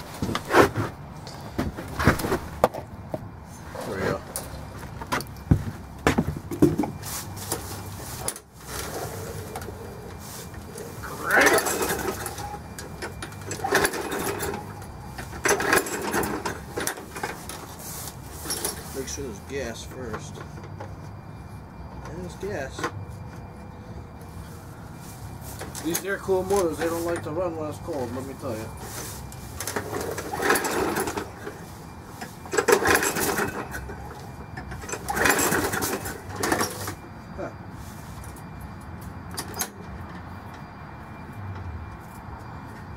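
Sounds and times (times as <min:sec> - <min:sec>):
pull-starter cranking mower engine: 0:03.6 - 0:23.6, 0:24.2 - 0:42.9.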